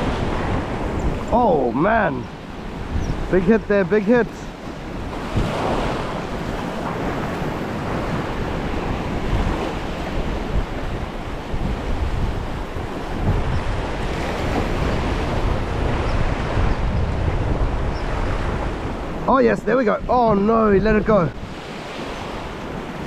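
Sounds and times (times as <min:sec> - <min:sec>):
ocean surf washing on shore: 0:00.0 - 0:23.0
wind buffeting microphone: 0:00.0 - 0:23.0.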